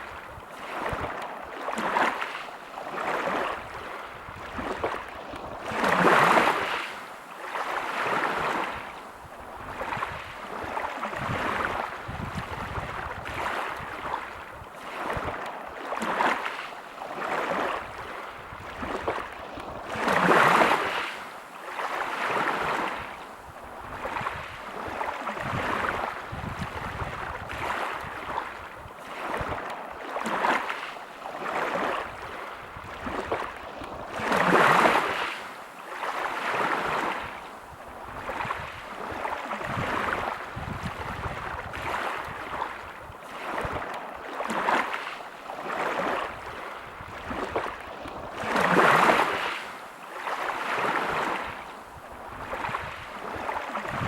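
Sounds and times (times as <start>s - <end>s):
waves breaking on pebble beach: 0.0s - 8.9s, 9.7s - 23.1s, 23.9s - 37.4s, 38.1s - 54.0s.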